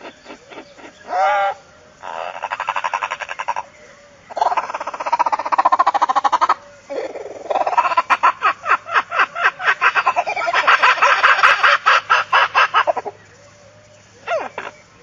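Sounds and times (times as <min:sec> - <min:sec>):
animal clucking calls: 0:00.0 - 0:13.2, 0:14.2 - 0:15.0.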